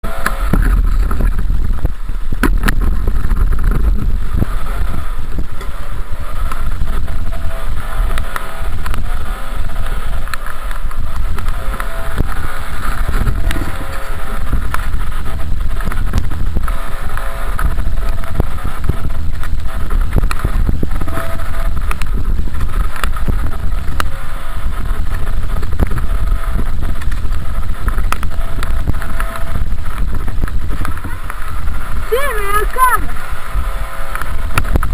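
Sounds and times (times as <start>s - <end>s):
dirt bike engine: 0.0s - 34.9s
wind rumble on microphone: 0.0s - 34.9s.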